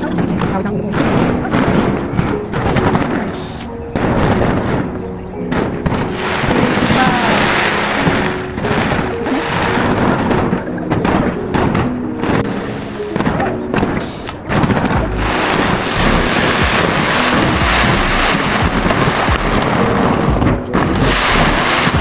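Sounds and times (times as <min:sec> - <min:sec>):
crowd noise: 0:00.0 - 0:22.0
music playing: 0:00.0 - 0:22.0.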